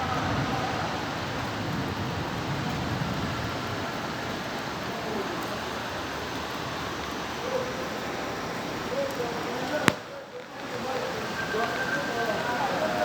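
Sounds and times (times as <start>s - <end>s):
heavy rain falling: 0.0s - 13.0s
running water: 0.0s - 13.0s.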